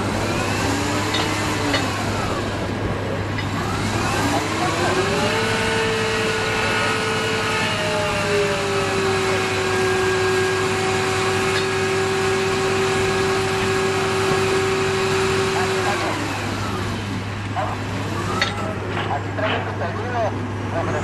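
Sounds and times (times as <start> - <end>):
machine motor whining: 0.0 - 18.9.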